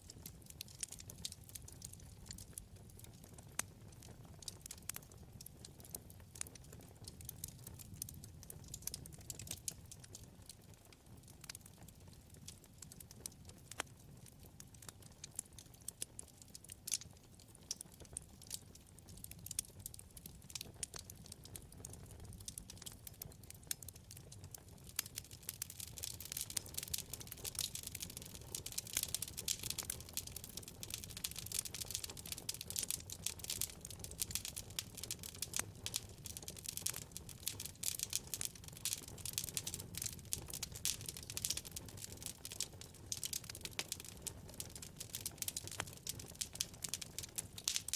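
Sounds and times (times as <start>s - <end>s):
fire crackling and popping: 0.0s - 47.9s
low rumble of flames: 0.0s - 47.9s.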